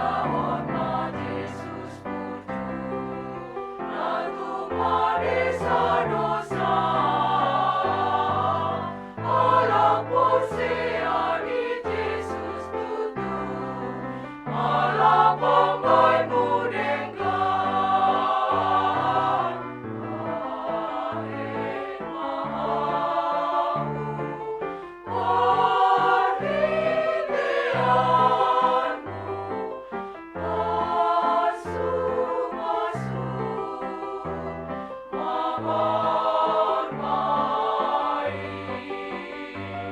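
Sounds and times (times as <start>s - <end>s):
women's choir singing: 0.0s - 39.9s.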